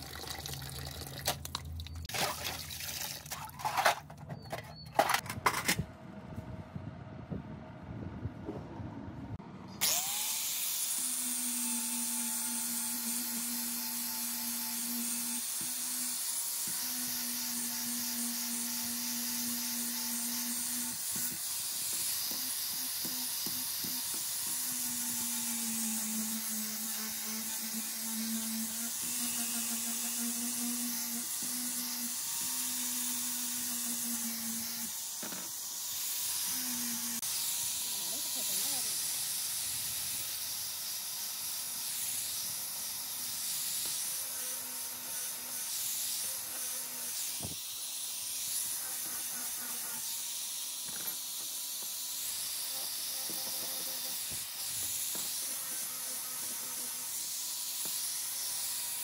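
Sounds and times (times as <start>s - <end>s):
angle grinder motor hum: 9.7s - 59.0s
grinder disc hissing on metal: 9.8s - 59.0s.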